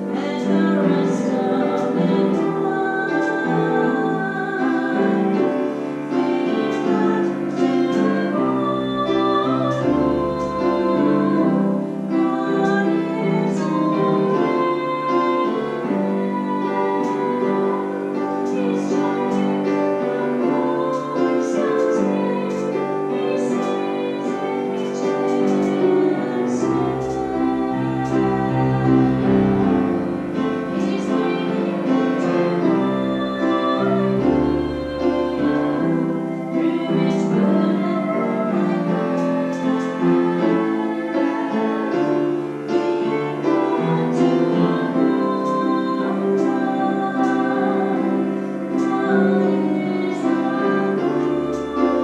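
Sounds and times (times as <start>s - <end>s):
piano music: 0.0s - 52.0s.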